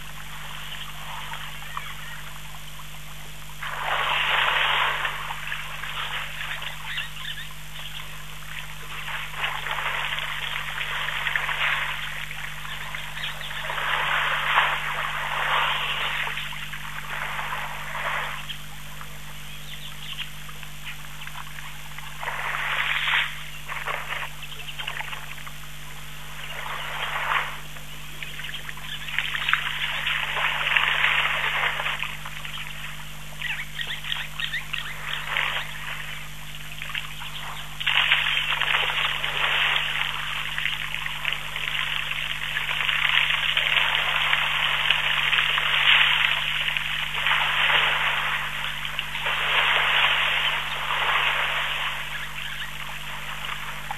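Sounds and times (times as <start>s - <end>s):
water sloshing and splashing: 0.0s - 7.2s, 8.1s - 19.2s, 20.2s - 53.9s
faint low hum: 0.0s - 53.9s.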